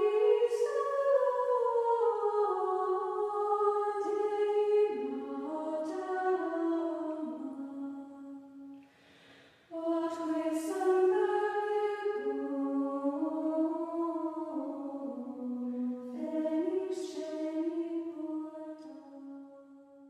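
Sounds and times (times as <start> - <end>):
women's choir singing chant: 0.0 - 8.2, 9.7 - 19.1.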